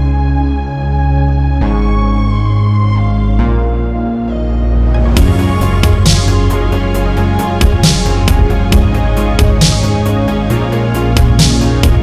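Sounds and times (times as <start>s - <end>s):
sustained synth keyboard chords: 0.0s - 12.0s.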